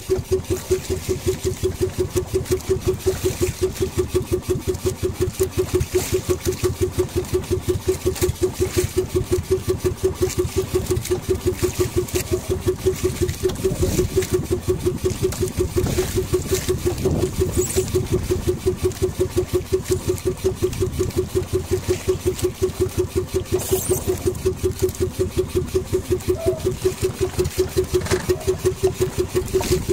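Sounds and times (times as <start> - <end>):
boat engine thumping: 0.0 - 29.9.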